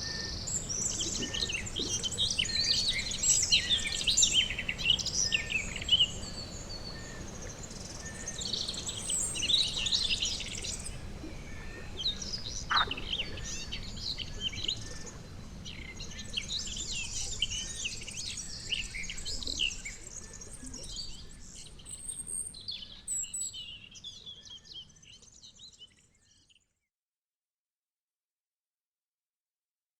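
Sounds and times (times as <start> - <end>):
frogs and birds chirping: 0.0 - 26.8.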